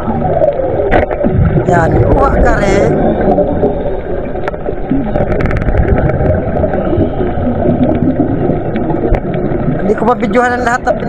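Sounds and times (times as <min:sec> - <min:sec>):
muffled underwater rush: 0:00.0 - 0:11.0.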